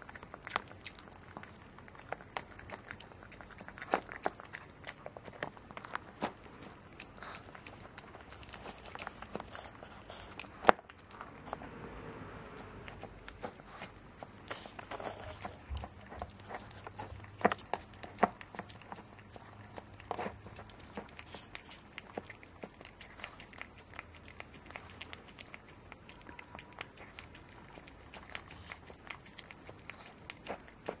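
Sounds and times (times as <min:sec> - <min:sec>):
dog licking and eating: 0:00.0 - 0:31.0.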